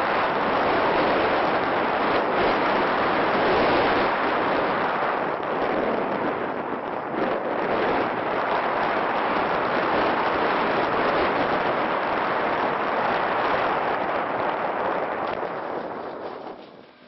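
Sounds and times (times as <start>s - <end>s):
drone rushing noise: 0.0s - 17.0s
wind on microphone: 0.0s - 17.0s.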